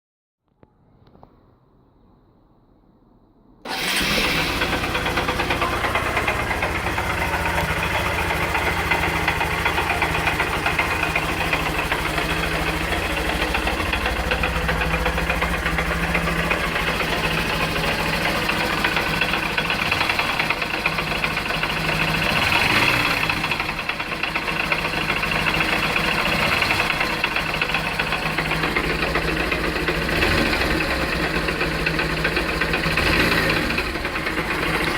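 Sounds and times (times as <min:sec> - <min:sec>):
engine knocking: 0:03.7 - 0:34.9
motorcycle engine starting and idling: 0:03.7 - 0:34.9.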